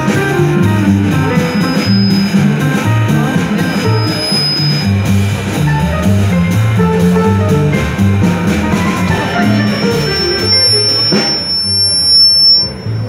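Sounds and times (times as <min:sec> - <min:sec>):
pizzicato double bass: 0:00.0 - 0:11.4
jazz piano: 0:00.0 - 0:13.0.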